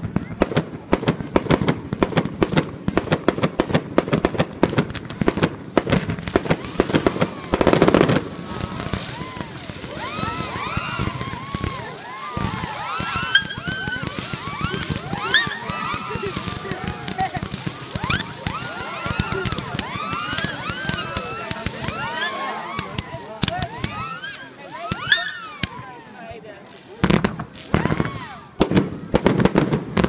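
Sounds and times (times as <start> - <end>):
firecrackers banging: 0.0 - 30.0
loud crackling burst: 0.0 - 30.0
whistling fireworks: 0.0 - 30.0.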